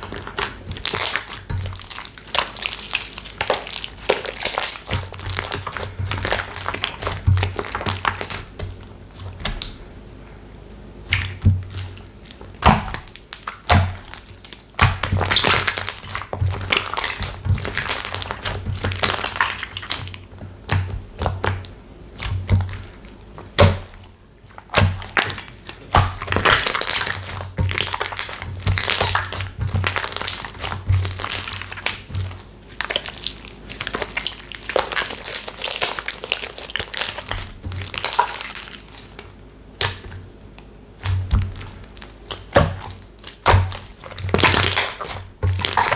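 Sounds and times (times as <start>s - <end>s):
slime crackling and squishing: 0.0s - 10.0s, 10.9s - 45.9s.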